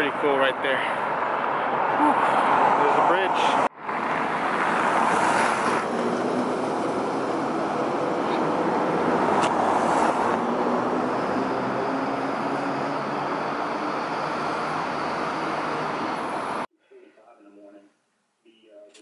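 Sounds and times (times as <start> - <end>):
cars driving over steel-grate bridge: 0.0 - 16.7.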